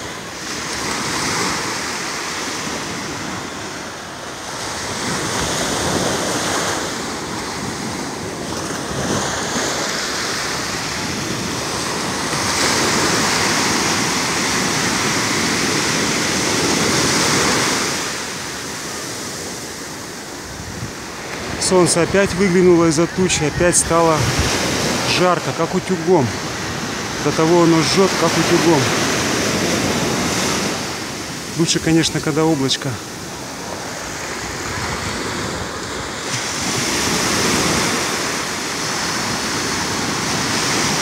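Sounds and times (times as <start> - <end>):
waves breaking on a sandy beach: 0.0 - 41.0.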